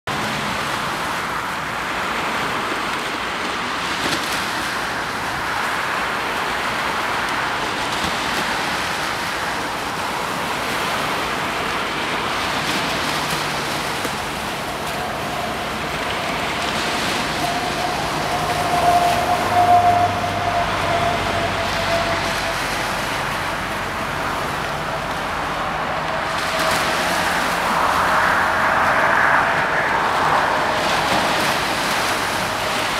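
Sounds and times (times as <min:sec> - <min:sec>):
traffic noise: 0:00.0 - 0:32.9
boat diesel engines running: 0:00.1 - 0:32.9
water noise: 0:00.1 - 0:32.9.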